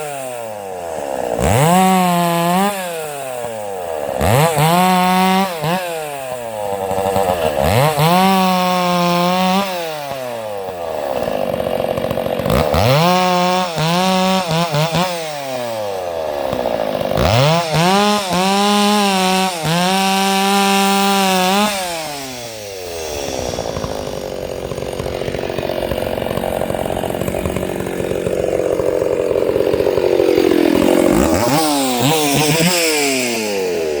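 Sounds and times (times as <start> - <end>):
chainsaw cutting under load: 0.0 - 34.0
chainsaw revving: 0.0 - 34.0.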